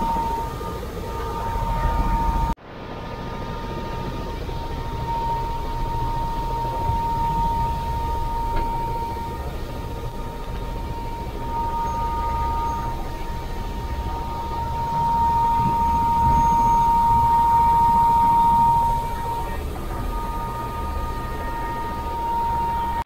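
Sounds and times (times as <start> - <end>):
helicopter engine and rotors: 0.0 - 23.0.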